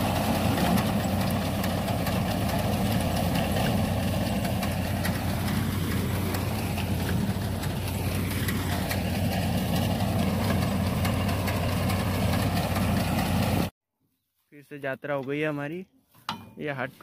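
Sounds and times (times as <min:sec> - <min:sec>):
tractor engine running under load: 0:00.0 - 0:13.7.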